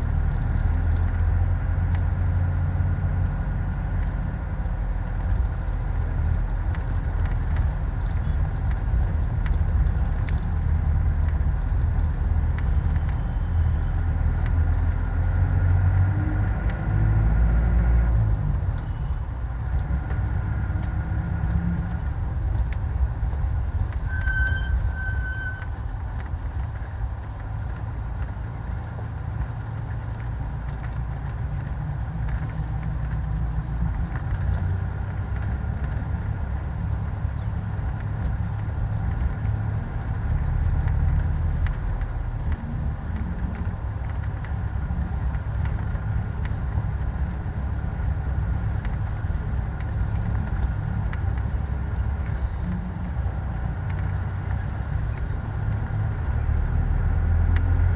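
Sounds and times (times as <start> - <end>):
motor vehicle rumble: 0.0 - 57.9.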